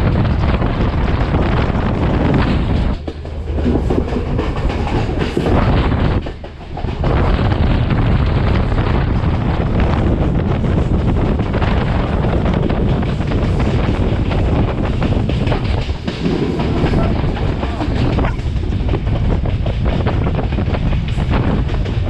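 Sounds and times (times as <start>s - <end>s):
rumble of train wheels on rail: 0.0s - 22.0s
wind buffeting microphone: 0.0s - 22.0s.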